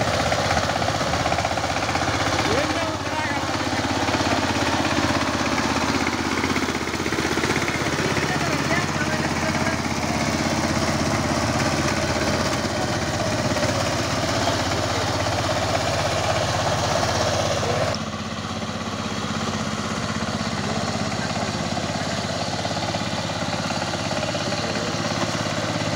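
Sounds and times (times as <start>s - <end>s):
tiller engine chugging: 0.0s - 25.9s.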